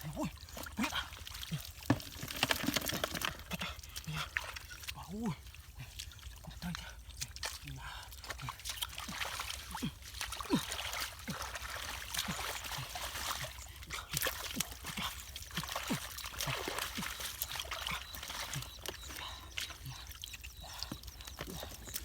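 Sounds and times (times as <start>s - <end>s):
small plops and drips: 0.0s - 22.0s
water splashing and trickling: 0.0s - 22.0s.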